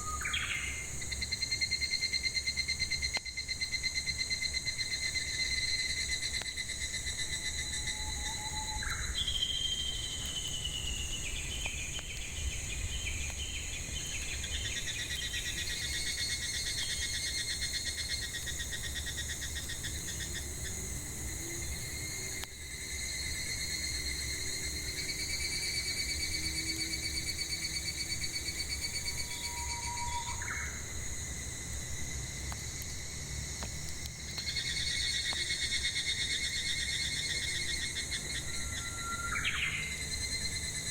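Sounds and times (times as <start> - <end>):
cicadas and insects droning: 0.0 - 40.9.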